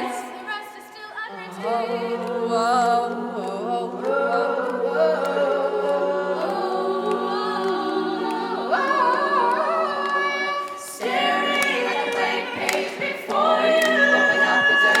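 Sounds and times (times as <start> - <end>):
women singing close harmonies: 0.0 - 15.0.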